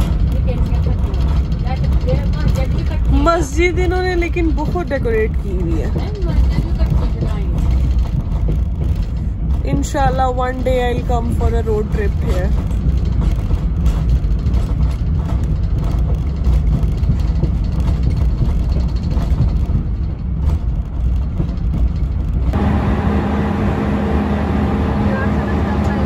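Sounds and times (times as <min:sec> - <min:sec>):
low hum: 0:00.0 - 0:26.0
train rumbling from inside carriage: 0:00.0 - 0:26.0.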